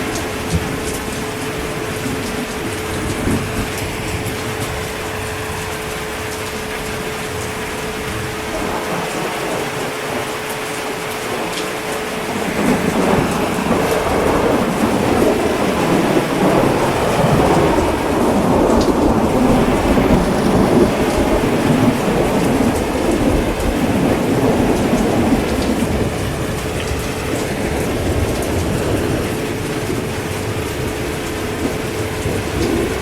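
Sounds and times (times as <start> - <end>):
heavy rain: 0.0 - 33.0
thunder rolling: 0.0 - 33.0.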